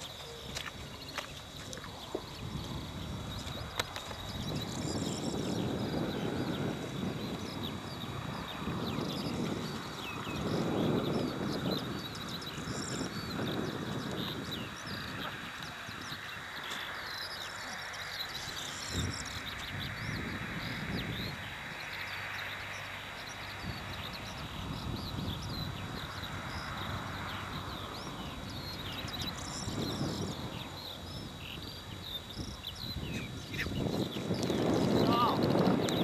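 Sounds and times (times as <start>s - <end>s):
small birds chirping: 0.0s - 36.0s
wind on microphone: 0.0s - 36.0s.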